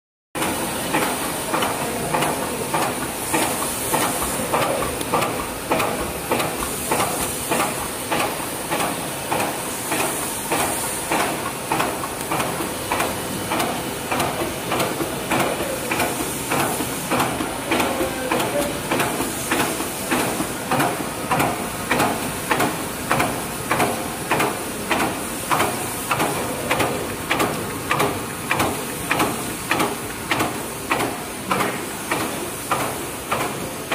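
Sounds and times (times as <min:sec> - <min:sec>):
packing machine clacking: 0:00.4 - 0:33.9.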